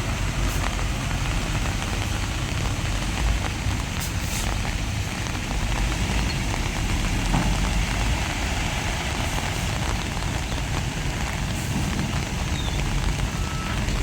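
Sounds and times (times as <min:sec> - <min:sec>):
heavy diesel machinery rumbling: 0:00.0 - 0:14.0.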